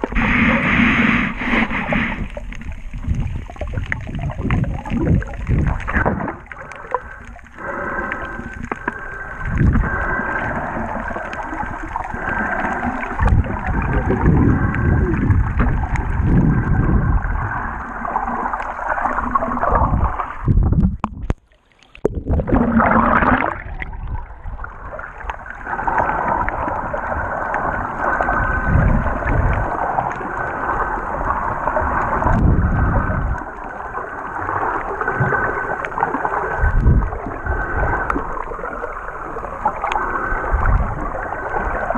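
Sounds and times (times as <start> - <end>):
muffled underwater water sloshing: 0.0 - 41.9.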